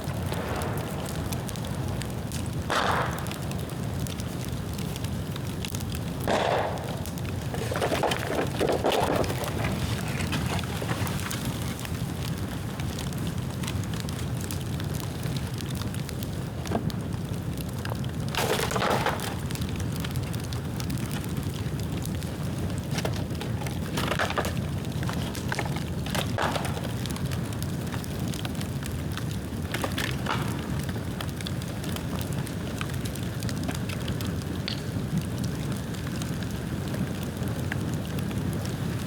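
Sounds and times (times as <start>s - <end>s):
bamboo crackling in bonfire: 0.0s - 39.0s
fire flaring: 0.0s - 39.0s.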